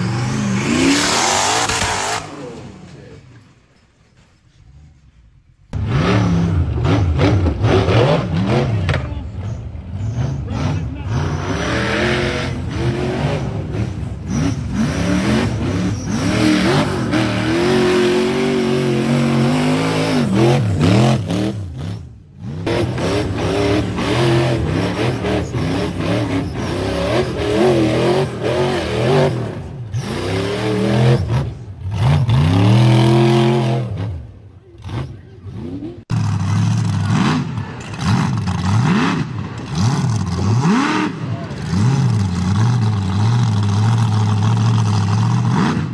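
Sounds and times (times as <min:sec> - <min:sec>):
engines revving hard: 0:00.0 - 0:03.2, 0:05.8 - 0:45.9.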